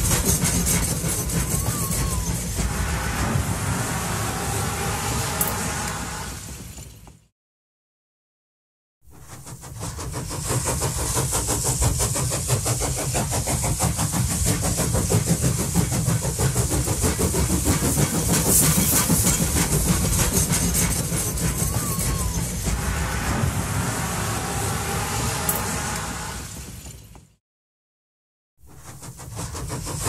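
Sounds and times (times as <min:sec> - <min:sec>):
steam train running: 0:00.0 - 0:07.2, 0:09.1 - 0:27.4, 0:28.6 - 0:30.0.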